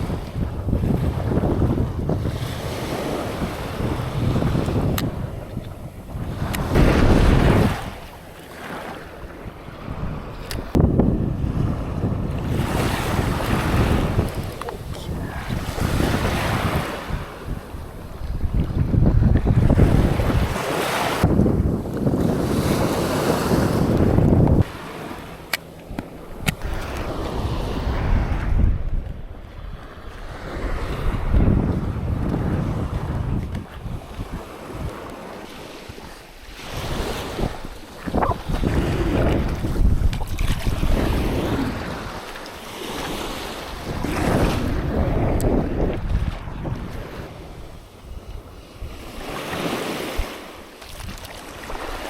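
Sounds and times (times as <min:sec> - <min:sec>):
waves breaking on beach: 0:00.0 - 0:52.0
wind buffeting microphone: 0:00.0 - 0:52.0.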